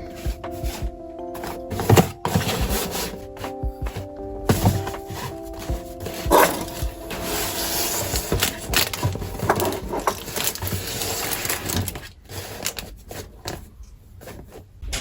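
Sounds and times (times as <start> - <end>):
rustling and scraping of containers: 0.0 - 15.0.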